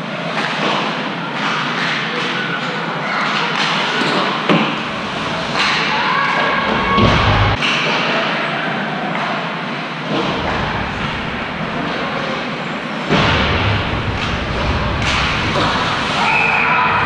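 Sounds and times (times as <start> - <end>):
steady noisy hall background: 0.0 - 17.0.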